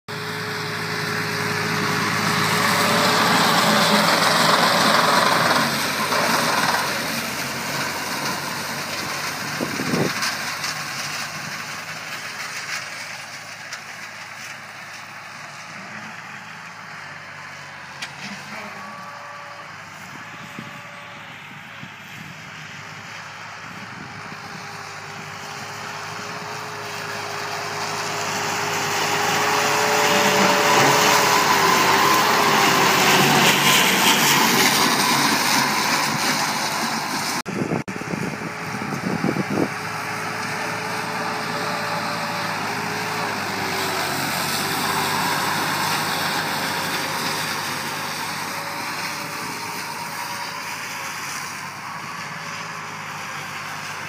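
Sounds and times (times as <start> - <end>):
rotary grass mower whirring: 0.1 - 54.0
tractor diesel engine running: 0.1 - 54.0.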